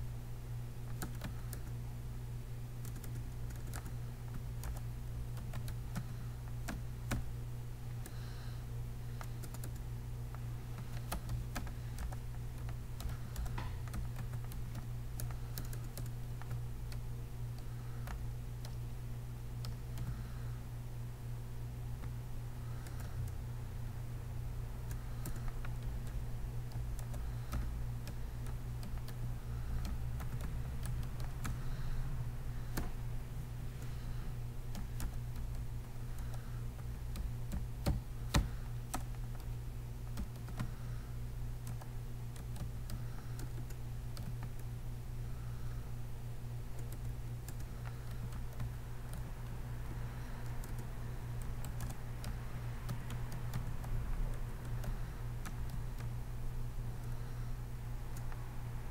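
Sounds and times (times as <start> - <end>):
low electrical hum: 0.0 - 58.9.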